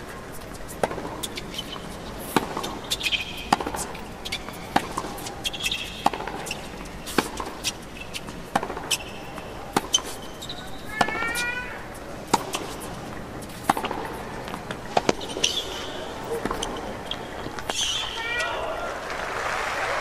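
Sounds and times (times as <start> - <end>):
tennis rackets hitting ball: 0.0 - 18.2.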